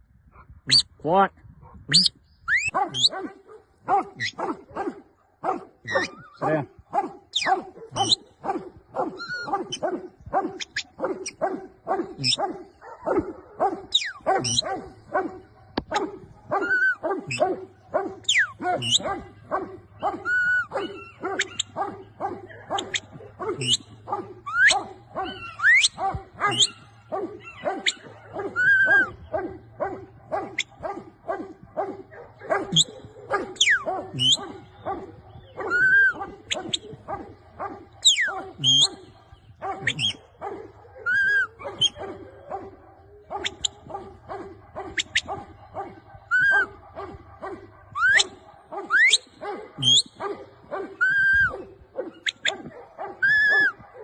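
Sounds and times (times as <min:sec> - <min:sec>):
dogs barking: 0:00.4 - 0:01.0, 0:01.6 - 0:54.0
dogs yelping and whining: 0:01.9 - 0:06.6, 0:07.3 - 0:54.0.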